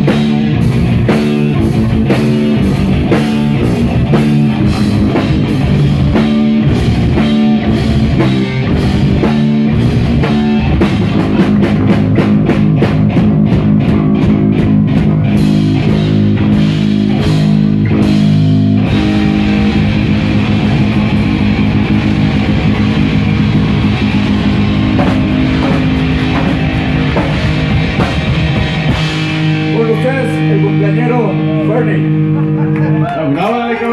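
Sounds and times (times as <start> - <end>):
drum kit beat: 0.0 - 33.0
bass guitar: 0.0 - 33.9
electric guitar: 0.0 - 33.9.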